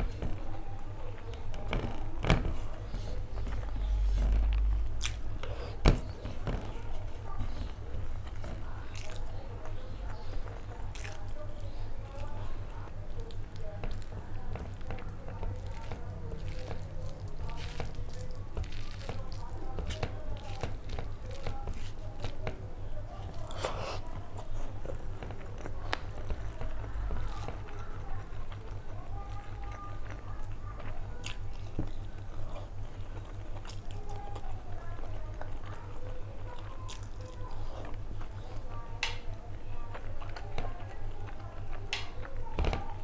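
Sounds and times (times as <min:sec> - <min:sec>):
fingers squishing rice: 0:00.0 - 0:43.0
steady low hum: 0:00.0 - 0:43.0.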